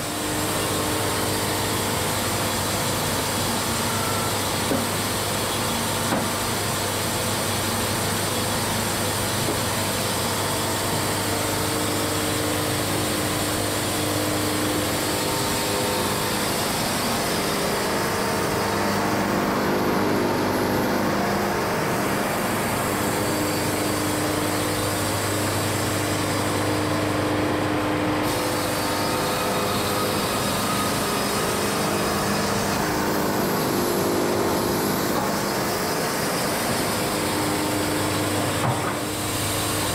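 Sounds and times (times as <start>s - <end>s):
band sawmill engine drone: 0.0s - 39.9s.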